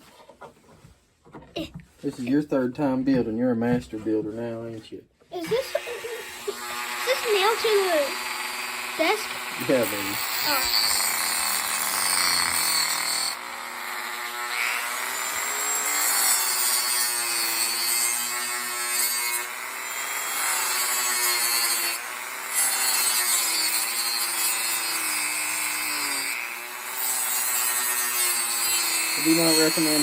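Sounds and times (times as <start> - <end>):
rotary tool cutting wood: 5.4 - 30.0.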